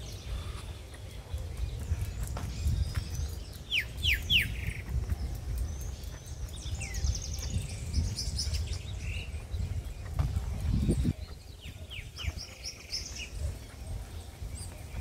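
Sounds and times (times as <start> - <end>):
songbirds calling: 0.0 - 15.0.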